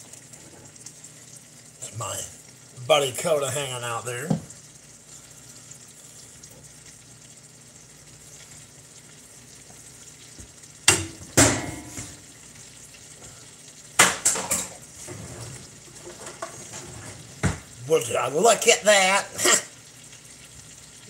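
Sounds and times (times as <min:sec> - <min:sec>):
fish frying with faint sizzle: 0:00.0 - 0:21.0.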